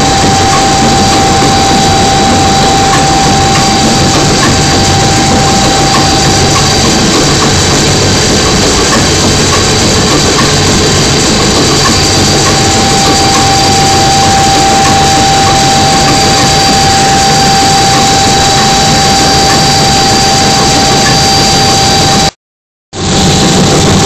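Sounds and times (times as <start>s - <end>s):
marine diesel engine clattering: 0.0s - 22.3s, 23.0s - 24.0s.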